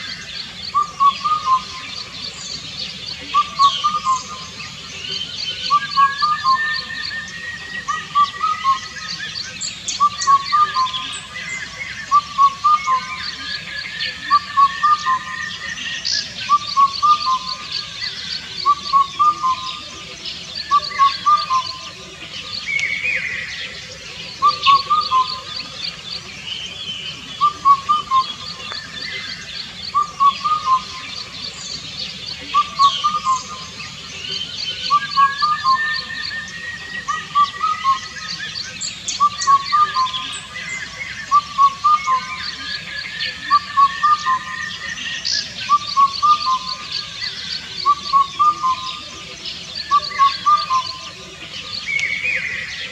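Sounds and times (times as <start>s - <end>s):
birds calling: 0.0s - 52.9s
cuckoo singing: 0.0s - 52.9s.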